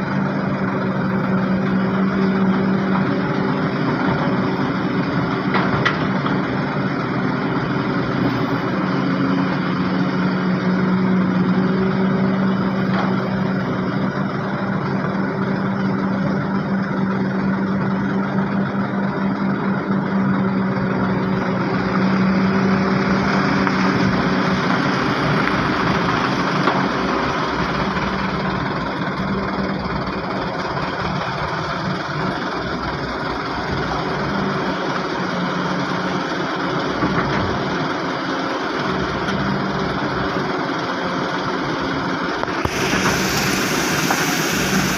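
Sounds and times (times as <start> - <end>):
heavy diesel engines running: 0.0 - 44.9
rush of engine noise: 0.0 - 44.9.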